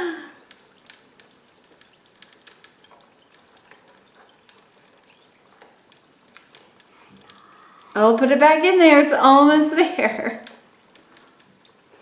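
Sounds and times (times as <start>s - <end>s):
crackles popping in bath water: 0.0s - 12.0s
soft hiss: 0.0s - 12.0s.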